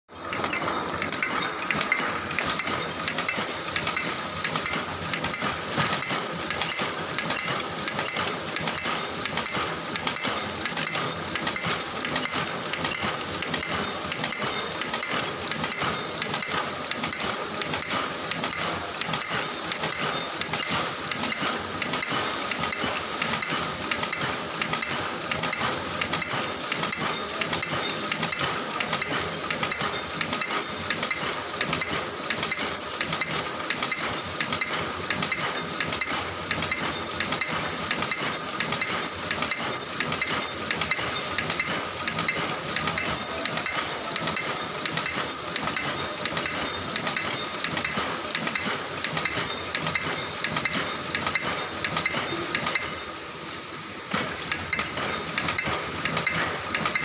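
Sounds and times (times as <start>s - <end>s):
high-pitched machine whine: 0.1s - 57.0s
machine rattling: 0.1s - 57.0s.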